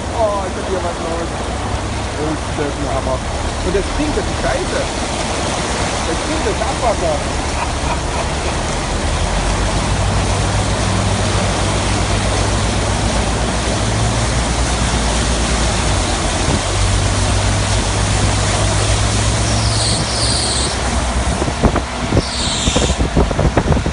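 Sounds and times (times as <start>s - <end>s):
heavy rain: 0.0s - 23.9s
running storm water: 0.0s - 23.9s.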